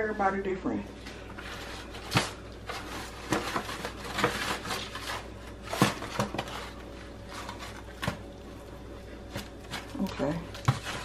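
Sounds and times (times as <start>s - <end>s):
foil pan crinkling: 1.1s - 11.0s.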